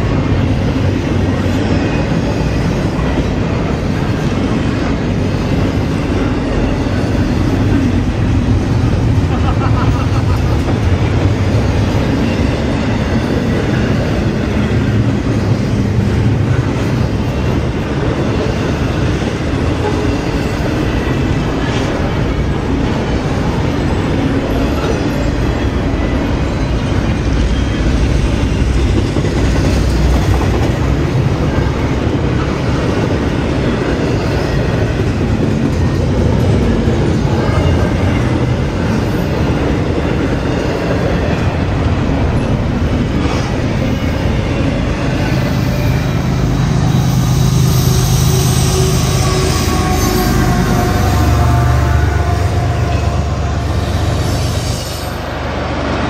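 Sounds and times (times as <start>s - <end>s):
steel train wheels on rail: 0.0s - 56.0s.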